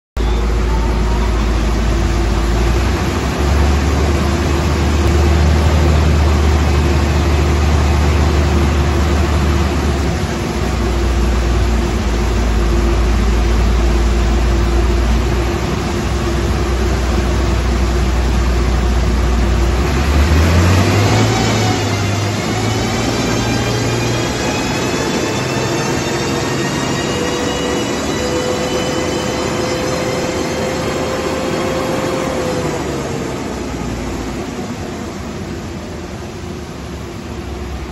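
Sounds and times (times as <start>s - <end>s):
diesel truck engine drone: 0.2s - 37.9s.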